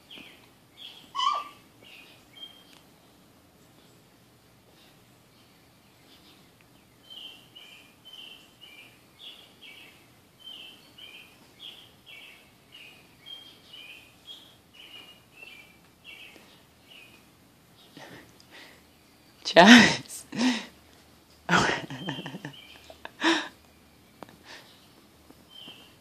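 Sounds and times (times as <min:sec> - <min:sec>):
bird chirping: 0:00.0 - 0:04.1, 0:04.7 - 0:19.4, 0:21.6 - 0:26.0.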